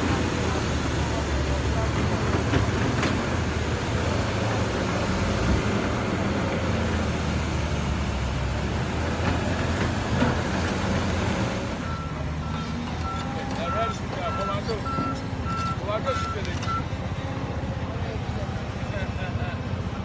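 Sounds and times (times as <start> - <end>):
diesel machinery running: 0.0 - 20.0.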